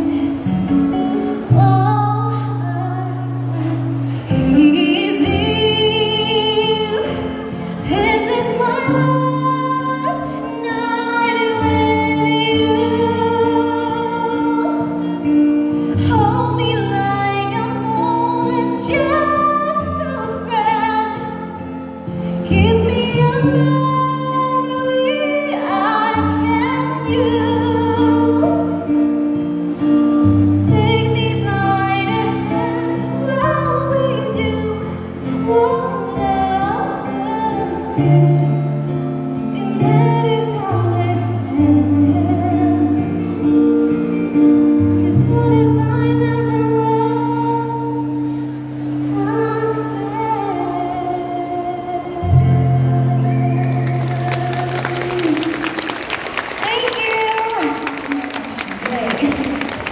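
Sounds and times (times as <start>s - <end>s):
woman singing into a microphone: 0.0s - 59.9s.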